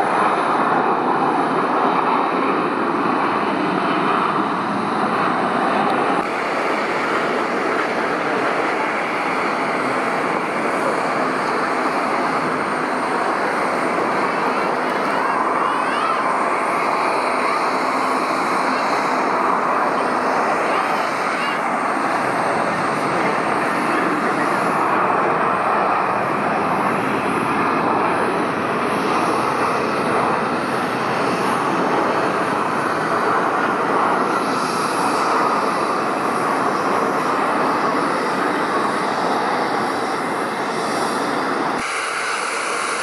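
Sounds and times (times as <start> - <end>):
jet airliner engines rushing: 0.0 - 43.0.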